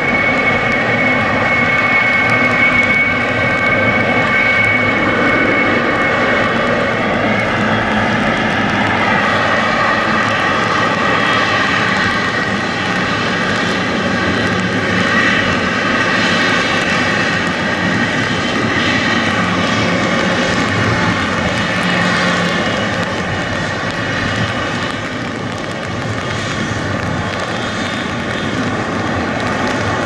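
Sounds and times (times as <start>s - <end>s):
jet engines running loudly: 0.0s - 30.0s
whining fan tones: 0.0s - 30.0s.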